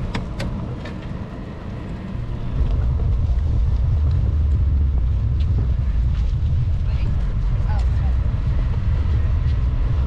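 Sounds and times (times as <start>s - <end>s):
bicycle tyres rolling on concrete: 0.0s - 10.0s
wind buffeting microphone: 0.0s - 10.0s.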